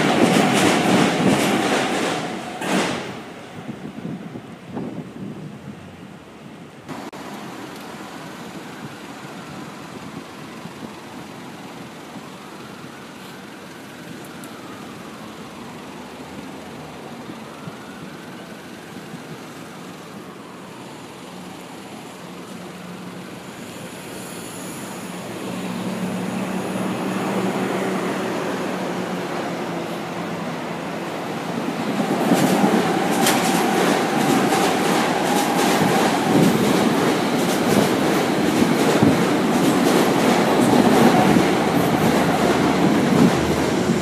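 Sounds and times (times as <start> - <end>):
street traffic passing: 0.0 - 44.0
train hum and whine: 0.0 - 44.0.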